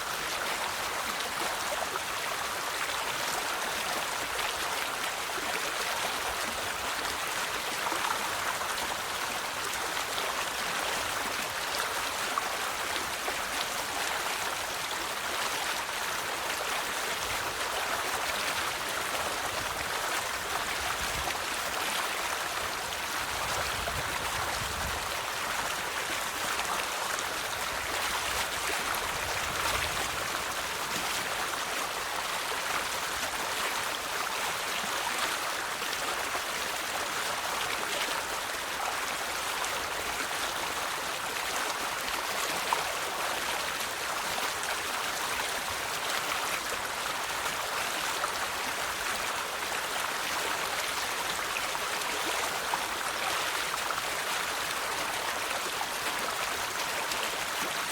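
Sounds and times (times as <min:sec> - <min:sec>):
river water flowing over stones: 0:00.0 - 0:57.9.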